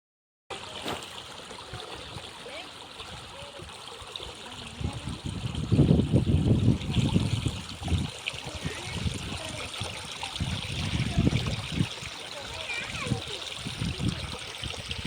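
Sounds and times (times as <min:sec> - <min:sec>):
stream trickling and gurgling: 0:00.5 - 0:15.0.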